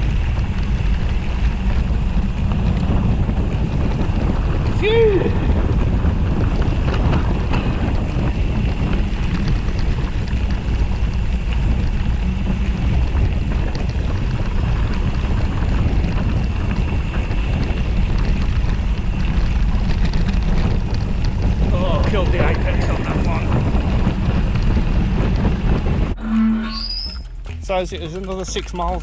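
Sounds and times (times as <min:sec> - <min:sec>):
tyres rolling over gravel: 0:00.0 - 0:26.1
wind buffeting microphone: 0:00.0 - 0:29.0.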